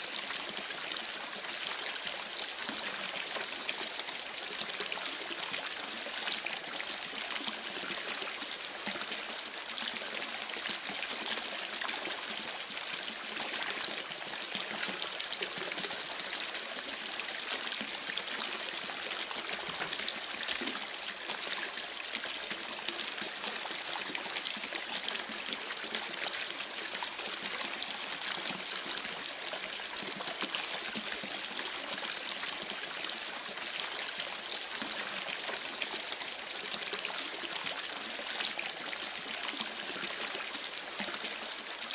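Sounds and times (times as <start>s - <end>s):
creek water trickling and splashing: 0.0s - 41.9s.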